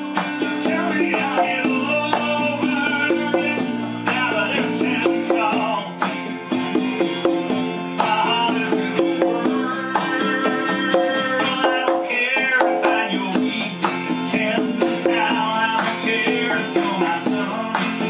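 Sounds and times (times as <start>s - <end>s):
acoustic guitar song with bass: 0.0s - 18.0s
congas played by hand: 0.0s - 18.0s.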